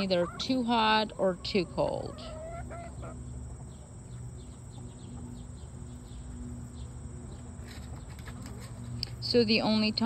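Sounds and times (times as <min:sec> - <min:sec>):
low steady hum: 0:00.0 - 0:10.0
crickets droning: 0:00.1 - 0:10.0.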